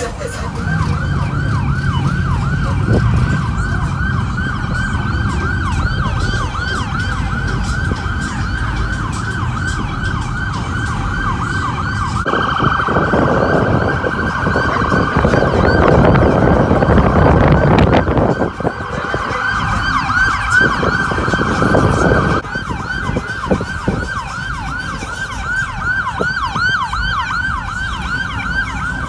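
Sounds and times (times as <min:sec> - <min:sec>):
police siren yelping: 0:00.0 - 0:29.0.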